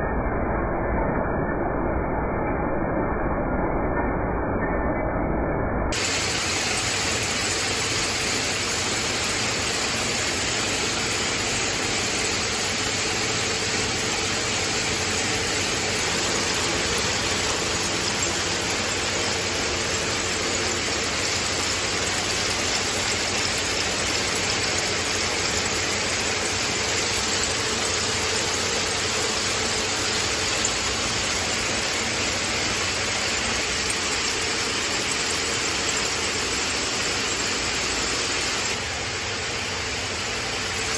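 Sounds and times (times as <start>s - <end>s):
braiding machines running: 5.9s - 40.9s.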